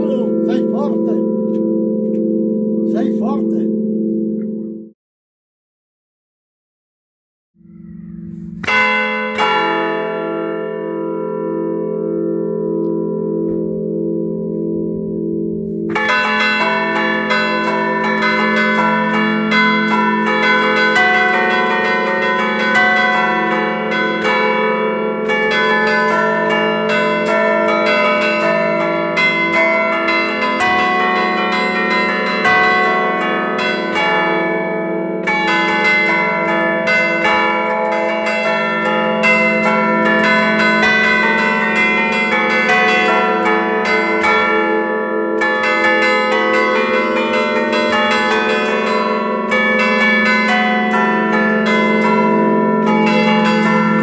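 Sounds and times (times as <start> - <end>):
church bells humming: 0.0 - 4.9, 7.6 - 54.0.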